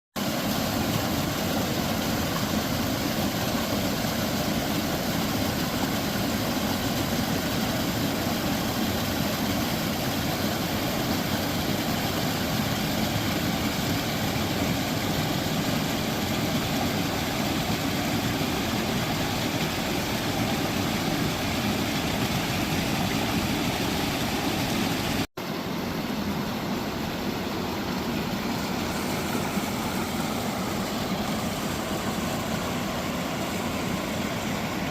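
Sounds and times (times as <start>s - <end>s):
forest stream flowing: 0.2s - 34.9s.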